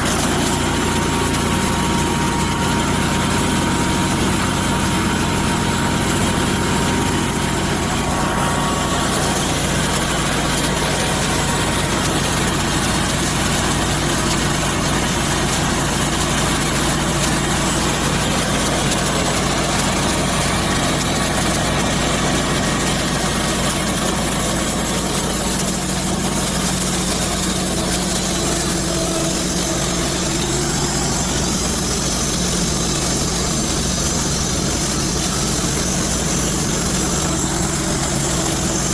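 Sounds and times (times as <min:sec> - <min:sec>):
saw cutting through log: 0:00.0 - 0:38.9
sawmill engine running: 0:00.0 - 0:38.9.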